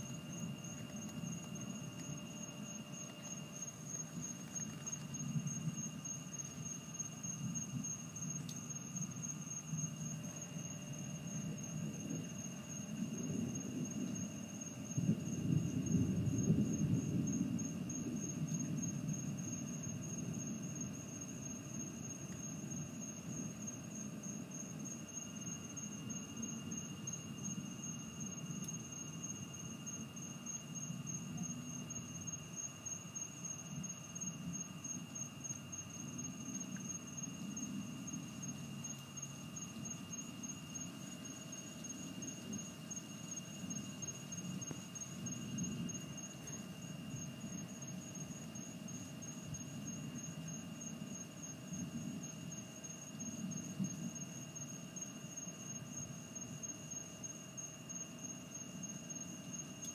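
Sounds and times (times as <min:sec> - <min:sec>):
insects trilling: 0:00.0 - 0:59.9
lower insect whine: 0:00.0 - 0:59.9.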